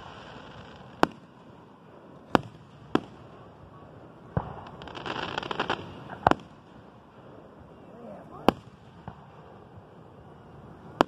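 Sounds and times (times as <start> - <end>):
fireworks bangs: 0.0 - 7.4, 8.1 - 11.0.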